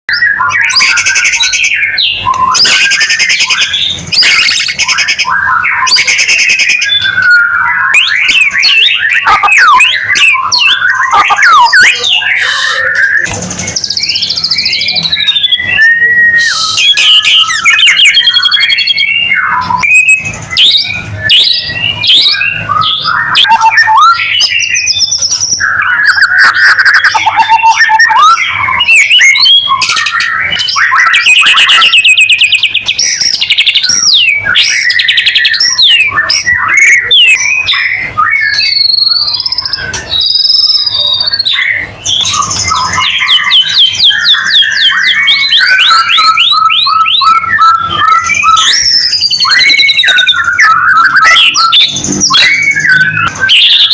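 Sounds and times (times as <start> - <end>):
bird singing varied whistled song: 0.1 - 53.9.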